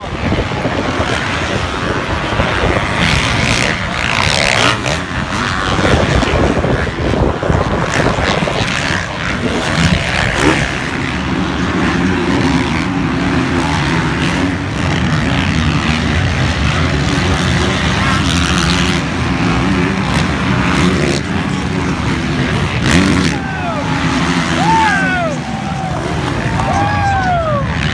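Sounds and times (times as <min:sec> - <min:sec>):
motocross bike engines running: 0:00.0 - 0:27.9.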